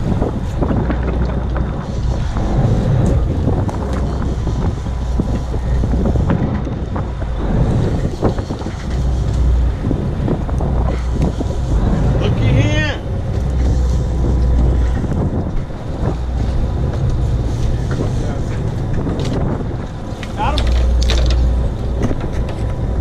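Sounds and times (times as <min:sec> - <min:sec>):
boat engine running: 0:00.0 - 0:23.0
sea wash: 0:00.0 - 0:23.0
wind buffeting microphone: 0:00.0 - 0:23.0.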